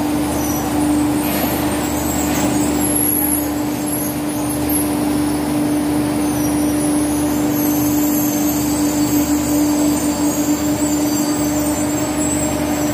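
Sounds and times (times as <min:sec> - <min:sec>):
diesel train hum: 0:00.0 - 0:12.9
faint high squeals: 0:00.3 - 0:05.0, 0:06.1 - 0:12.9.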